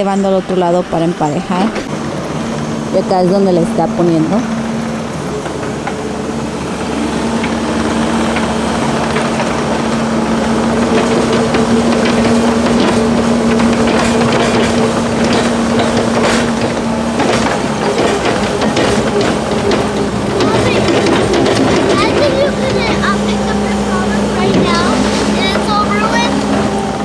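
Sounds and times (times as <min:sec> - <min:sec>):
motor humming: 0:00.0 - 0:27.0.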